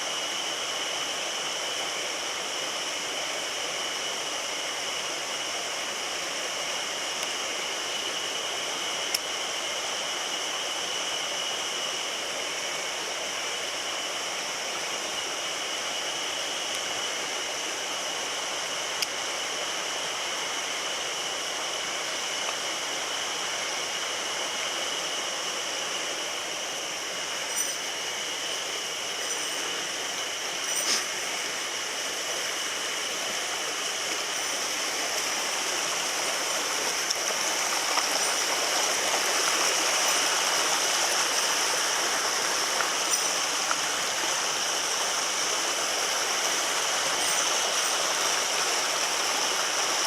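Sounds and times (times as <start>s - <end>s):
stream water rushing: 0.0s - 50.0s.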